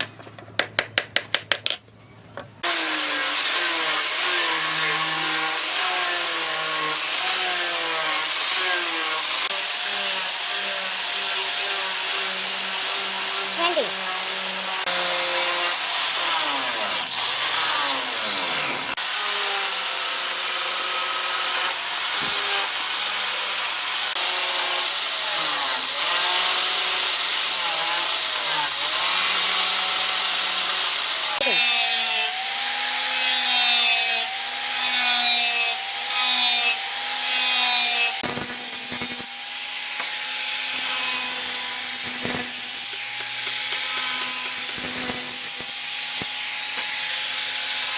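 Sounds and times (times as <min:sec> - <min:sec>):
tool rasping wood: 0:02.6 - 0:47.9.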